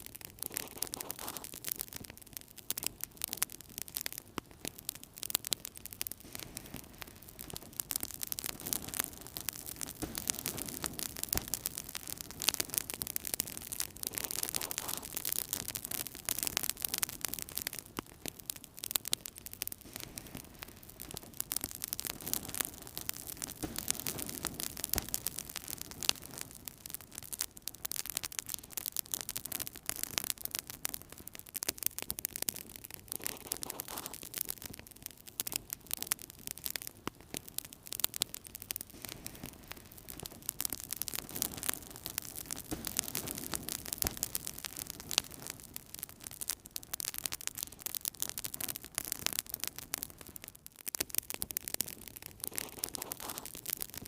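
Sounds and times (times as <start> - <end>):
fire hissing: 0.0 - 50.3, 51.2 - 54.0
fire crackling and popping: 0.0 - 54.0.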